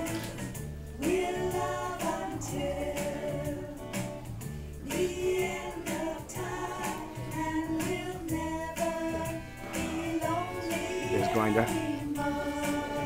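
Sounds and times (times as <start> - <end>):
low musical accompaniment: 0.0 - 13.0
voices singing long notes: 1.0 - 13.0.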